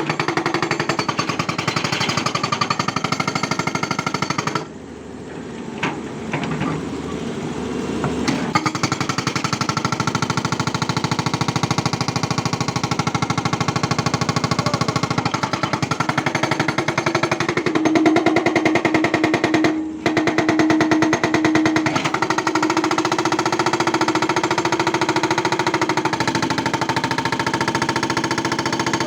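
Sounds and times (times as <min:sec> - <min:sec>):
hydraulic breaker hammering: 0:00.0 - 0:04.8, 0:08.0 - 0:29.0
excavator engine running: 0:00.3 - 0:29.0.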